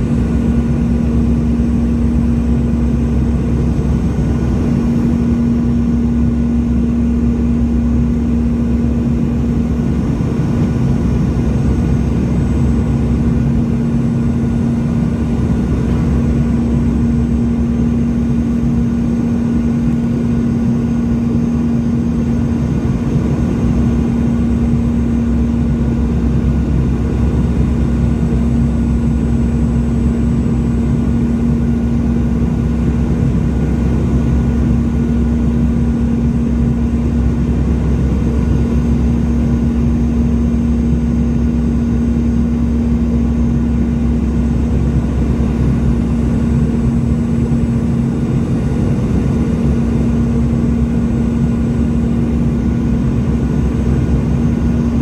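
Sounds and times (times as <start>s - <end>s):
constant low hum: 0.0s - 55.0s
jet engine roar: 0.0s - 55.0s.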